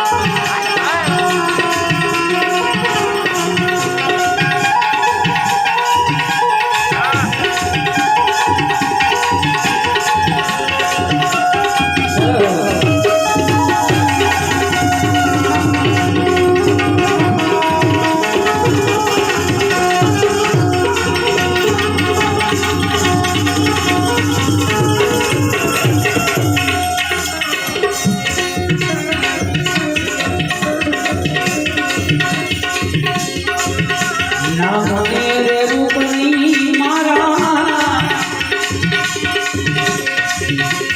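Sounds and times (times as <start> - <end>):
harmonium notes: 0.0 - 40.9
tabla rhythm: 0.0 - 40.9.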